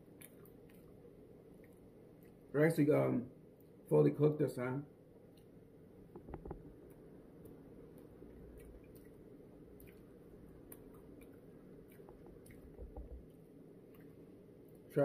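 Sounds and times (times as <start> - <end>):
faint chewing: 0.0 - 2.5, 5.3 - 14.9.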